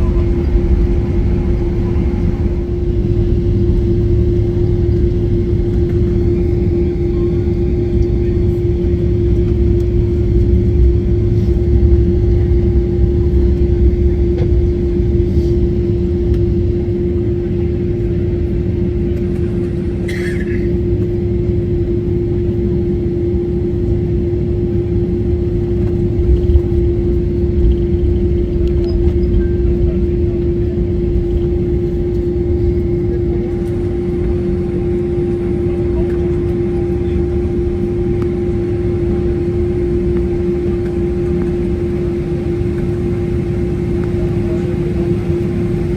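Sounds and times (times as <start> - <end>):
constant hum: 0.0 - 45.9.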